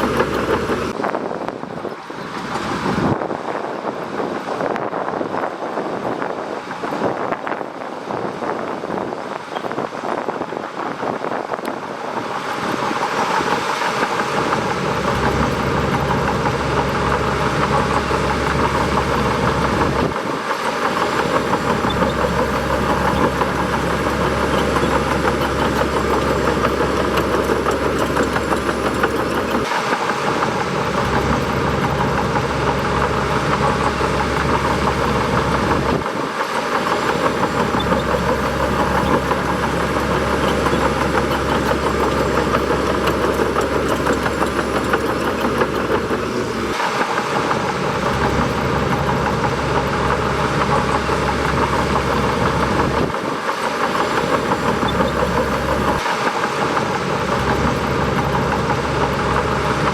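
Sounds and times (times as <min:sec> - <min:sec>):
bulldozer diesel engine running: 0:00.0 - 0:04.2, 0:08.0 - 0:59.9
high engine whine: 0:00.0 - 0:59.9.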